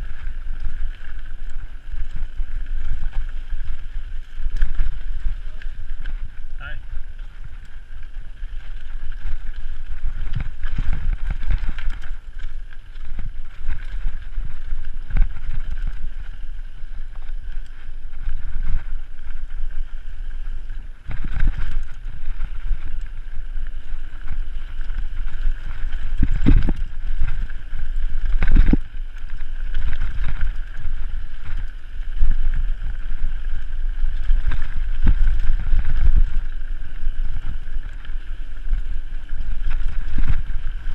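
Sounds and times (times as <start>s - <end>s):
bike rattling over bumps: 0.0s - 40.9s
wind buffeting microphone: 0.0s - 40.9s.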